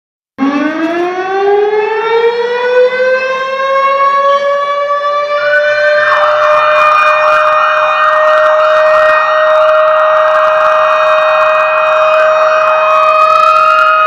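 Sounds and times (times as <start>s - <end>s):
higher siren tone: 0.4s - 14.0s
siren wailing: 0.4s - 14.0s.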